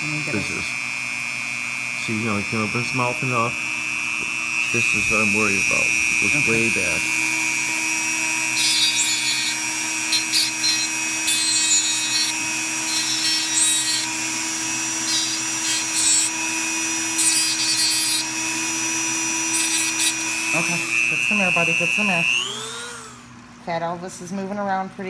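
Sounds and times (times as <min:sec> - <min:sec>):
rotary tool whining: 0:00.0 - 0:23.5
grinding scraping bursts: 0:00.3 - 0:23.3.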